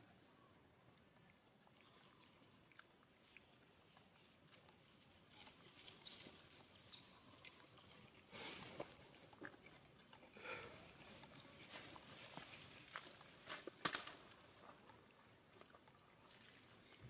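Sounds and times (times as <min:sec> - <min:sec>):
faint crackles and ticks: 0:00.0 - 0:17.0.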